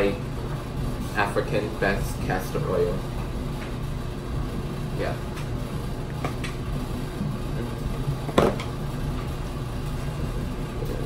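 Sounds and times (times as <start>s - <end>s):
laundry machine humming: 0.0s - 11.0s.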